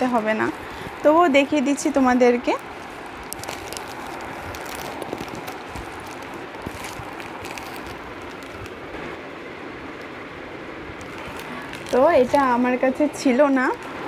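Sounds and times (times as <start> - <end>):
fabric rustling: 0.0 - 9.1, 11.0 - 13.8.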